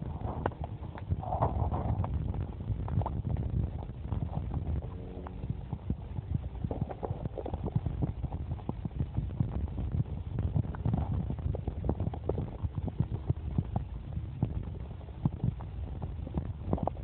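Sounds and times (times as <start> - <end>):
small underwater clicks and knocks: 0.0 - 17.0
underwater rumble of moving water: 0.0 - 17.0.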